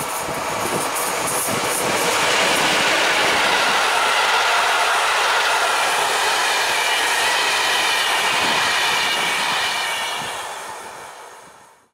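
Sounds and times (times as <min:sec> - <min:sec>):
train wheels clattering on rails: 0:00.0 - 0:11.1.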